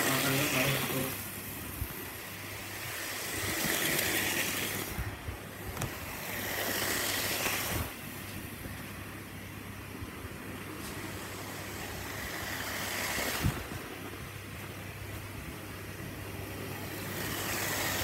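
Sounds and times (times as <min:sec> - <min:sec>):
model train whirring on track: 0:00.0 - 0:18.0
steady low hum: 0:00.0 - 0:18.0.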